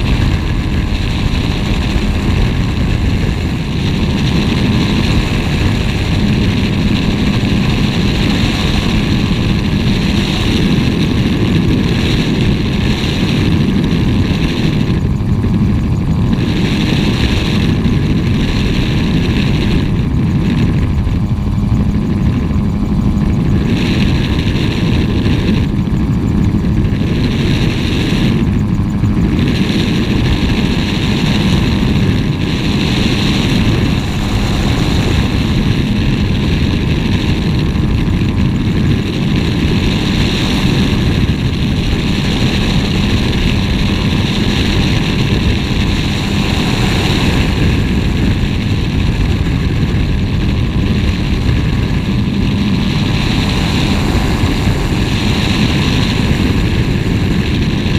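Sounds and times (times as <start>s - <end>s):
air rushing: 0.0s - 57.9s
gyrocopter engine drone: 0.0s - 57.9s.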